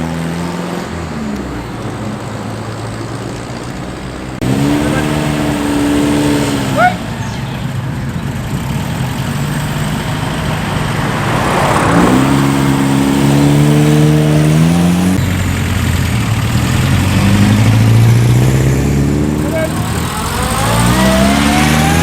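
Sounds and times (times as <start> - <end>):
car engine accelerating: 0.0 - 22.0
car passing with a rush: 0.0 - 22.0.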